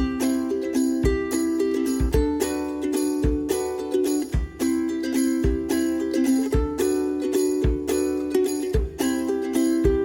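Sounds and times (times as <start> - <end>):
plucked string tune over a beat: 0.0 - 10.0.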